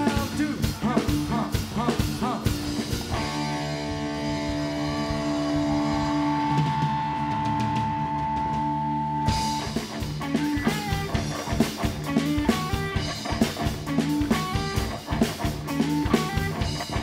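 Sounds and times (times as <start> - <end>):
electric guitar playing: 0.0 - 17.0
steady drum beat: 0.0 - 17.0.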